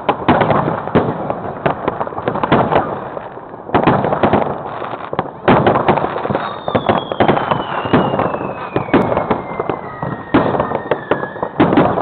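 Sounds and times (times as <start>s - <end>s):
fireworks and firecrackers banging: 0.0s - 12.0s.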